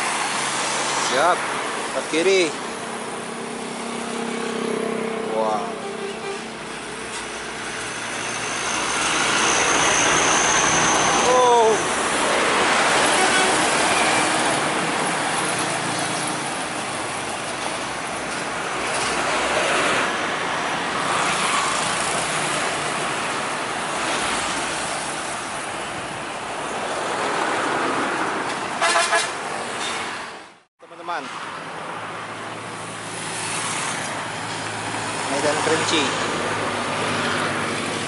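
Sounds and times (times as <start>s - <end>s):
traffic engines and tyres rushing: 0.0s - 38.0s.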